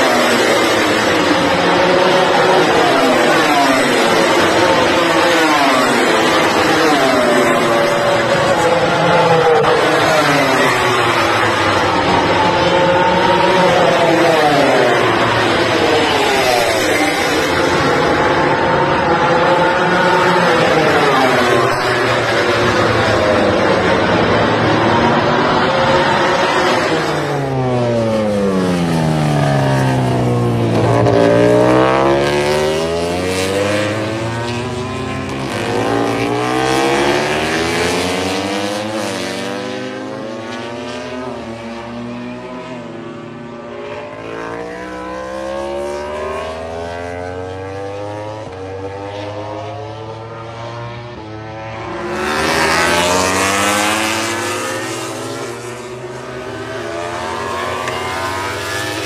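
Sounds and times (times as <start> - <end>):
racing motorcycles passing at high revs: 0.0 - 59.0.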